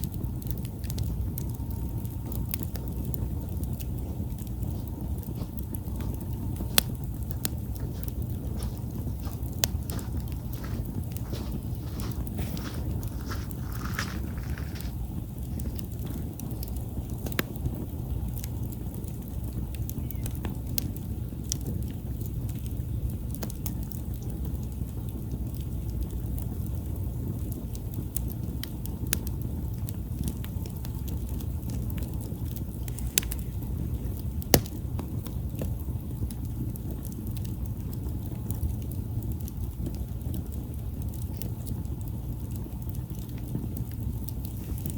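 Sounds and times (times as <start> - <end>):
campfire rumble: 0.0 - 44.9
crackles and pops of burning wood: 0.0 - 44.9.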